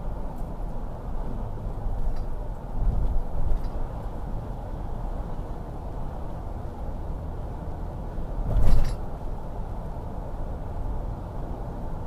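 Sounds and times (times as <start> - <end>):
road and engine noise in vehicle: 0.0 - 12.0.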